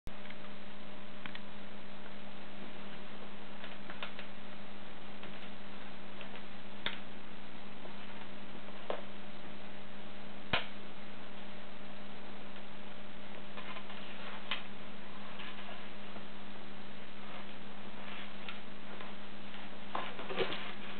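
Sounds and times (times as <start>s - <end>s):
steady hum: 0.1s - 20.9s.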